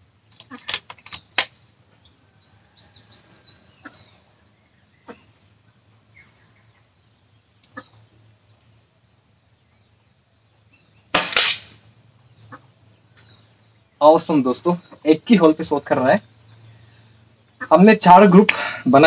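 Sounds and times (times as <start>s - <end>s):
faint bird chirps: 0.0s - 11.1s, 11.8s - 19.0s
high insect buzz: 0.0s - 19.0s.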